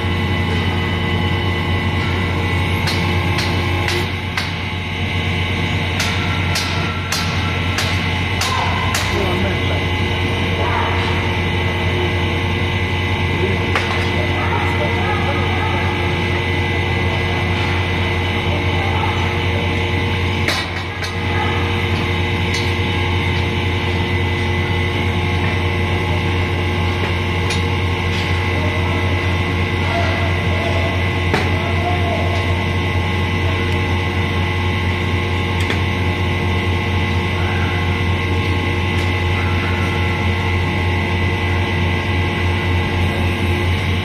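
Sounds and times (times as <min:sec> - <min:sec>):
hydraulic power pack droning: 0:00.0 - 0:44.0.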